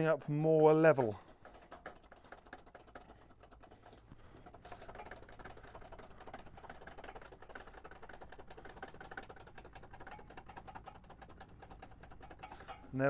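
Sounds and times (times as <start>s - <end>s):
foot pump clicks and ticks: 0.0s - 13.0s.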